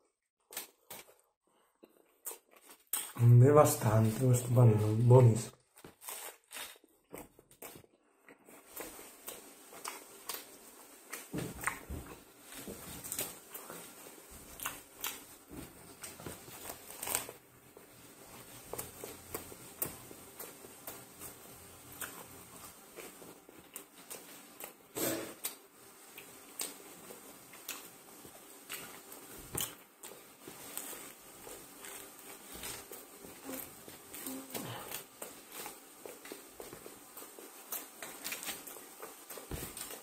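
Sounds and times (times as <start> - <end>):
person chewing sandwich: 0.0 - 40.0.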